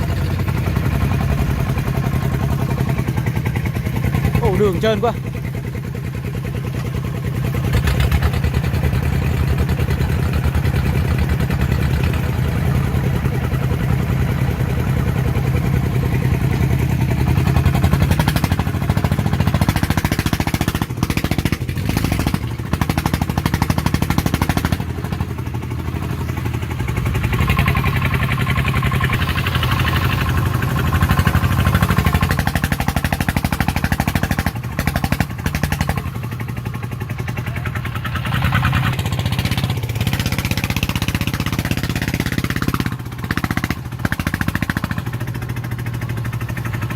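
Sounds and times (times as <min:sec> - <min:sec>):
diesel engine running hard: 0:00.0 - 0:46.9.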